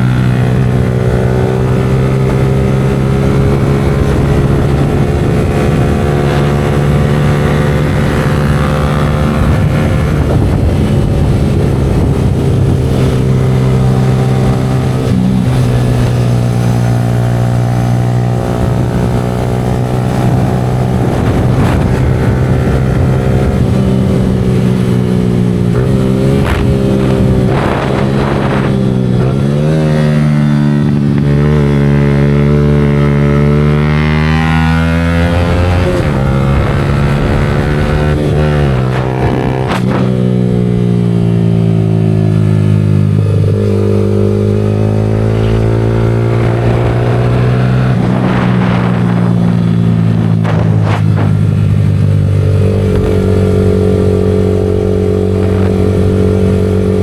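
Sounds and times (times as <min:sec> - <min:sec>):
motorcycle engine riding: 0:00.0 - 0:57.0.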